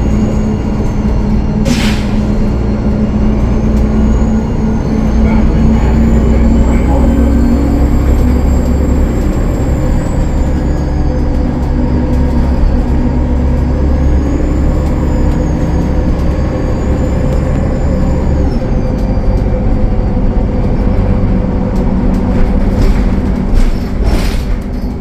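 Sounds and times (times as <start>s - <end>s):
diesel bus engine under load: 0.0s - 25.0s.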